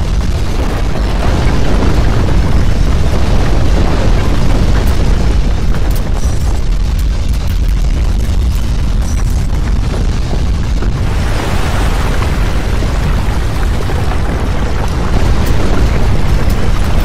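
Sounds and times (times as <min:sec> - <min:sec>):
deep earthquake rumble: 0:00.0 - 0:17.0.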